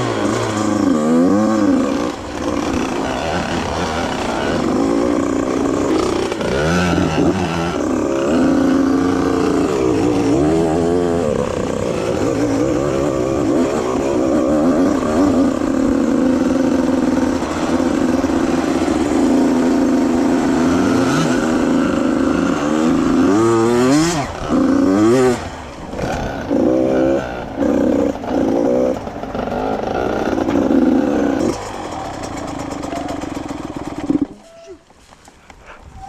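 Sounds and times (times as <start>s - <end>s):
dirt bike engine revving: 0.0s - 34.5s.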